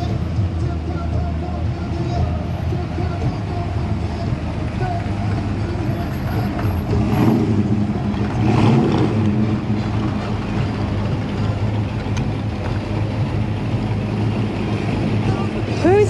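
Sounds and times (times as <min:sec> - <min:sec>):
car engines passing slowly: 0:00.0 - 0:16.0.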